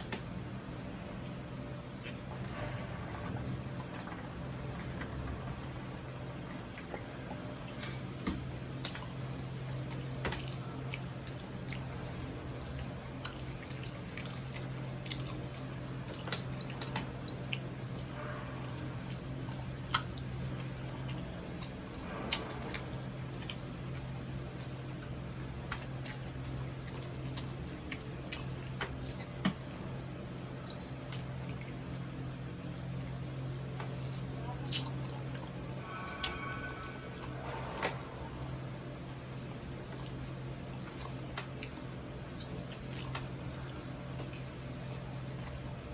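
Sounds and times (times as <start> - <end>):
steady low hum: 0.0 - 45.9
person chewing crispy food: 5.8 - 45.9.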